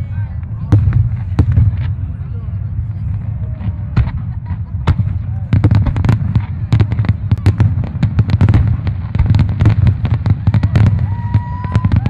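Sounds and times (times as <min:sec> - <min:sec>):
fireworks bursting: 0:00.4 - 0:12.0
low rumble of echoing booms: 0:00.6 - 0:12.0.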